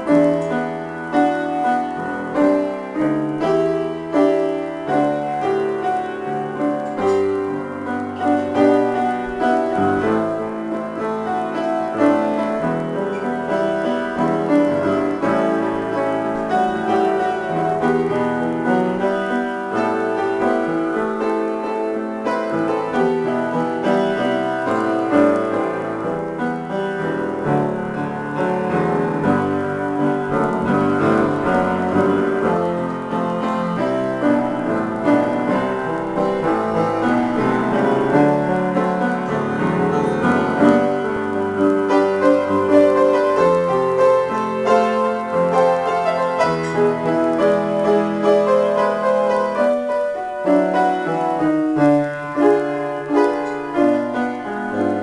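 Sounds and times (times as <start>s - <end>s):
piano improvisation: 0.0s - 55.0s.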